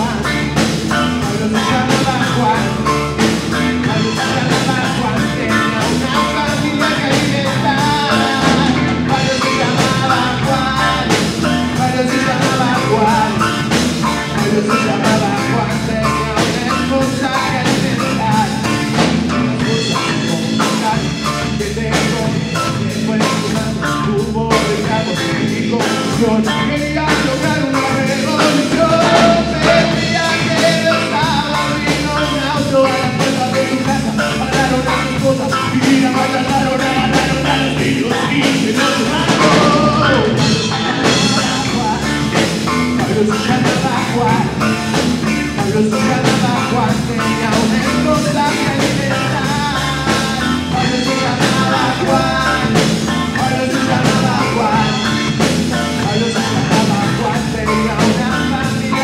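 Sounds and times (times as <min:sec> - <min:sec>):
drum kit: 0:00.0 - 0:59.0
electric guitar: 0:00.0 - 0:59.0
man singing: 0:00.0 - 0:59.0.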